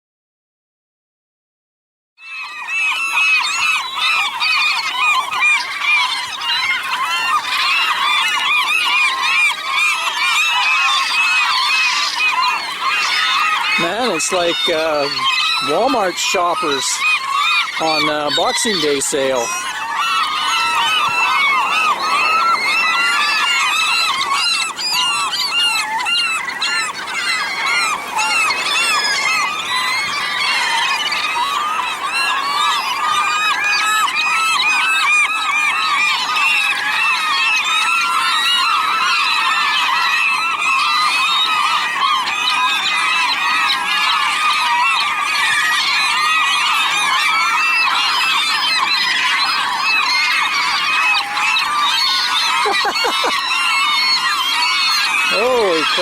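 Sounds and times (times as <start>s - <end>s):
gulls squabbling: 2.2s - 56.0s.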